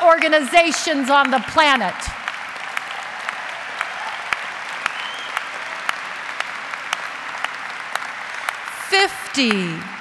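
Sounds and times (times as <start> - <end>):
large audience applauding: 0.1 - 10.0.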